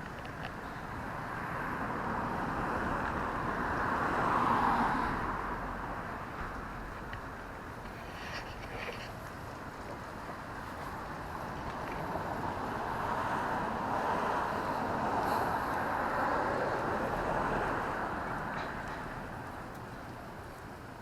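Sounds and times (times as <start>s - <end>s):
vehicle passing on street: 0.0s - 21.0s.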